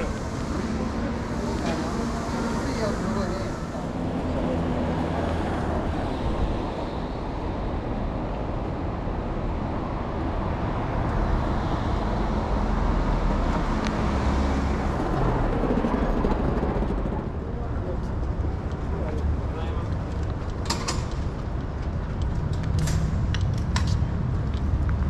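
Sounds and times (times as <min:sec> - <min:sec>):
city street low rumble: 0:00.0 - 0:25.0.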